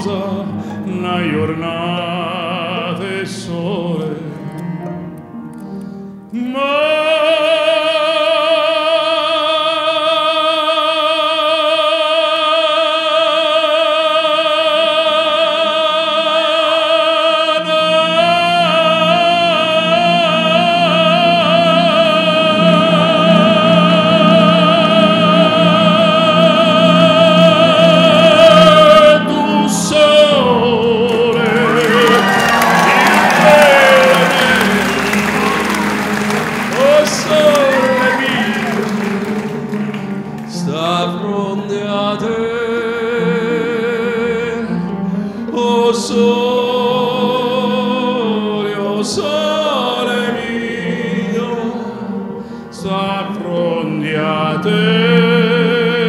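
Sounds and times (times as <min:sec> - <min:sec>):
operatic baritone singing: 0:00.0 - 0:05.0, 0:06.3 - 0:56.0
musical accompaniment: 0:00.0 - 0:56.0.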